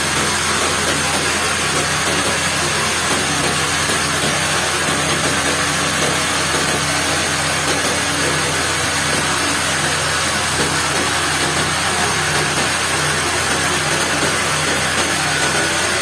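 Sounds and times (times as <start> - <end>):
sawmill machinery hum and hiss: 0.0 - 16.0.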